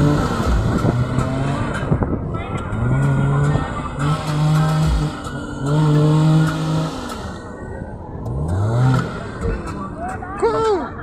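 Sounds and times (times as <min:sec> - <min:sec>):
vehicle engine revving: 0:00.0 - 0:10.1.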